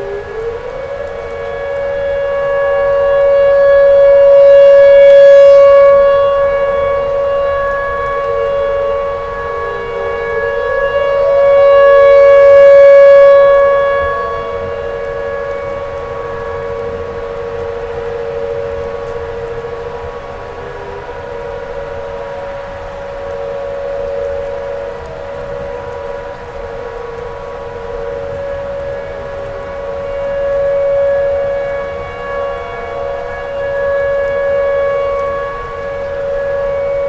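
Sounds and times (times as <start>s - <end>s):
warning siren wailing: 0.0s - 37.0s.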